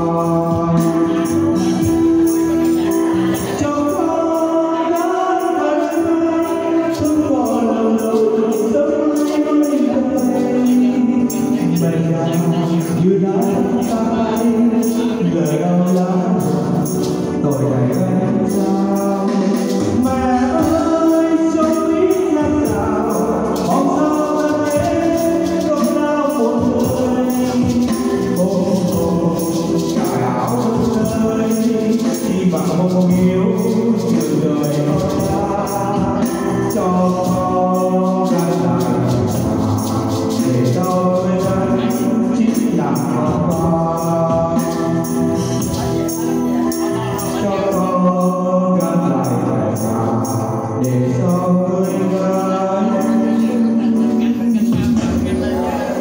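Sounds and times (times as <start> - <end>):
amplified music: 0.0 - 56.0
man singing: 0.0 - 56.0
tambourine shaking: 0.0 - 56.0.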